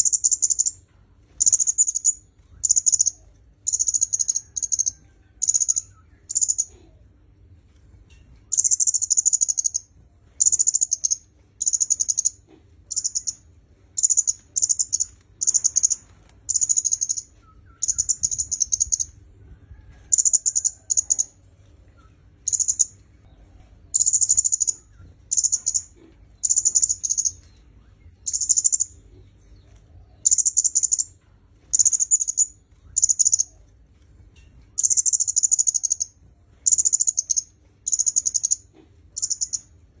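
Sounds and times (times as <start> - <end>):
bird high buzzy chip-trills: 0.0 - 6.8, 8.4 - 19.2, 20.1 - 23.3, 23.9 - 33.9, 34.8 - 40.0.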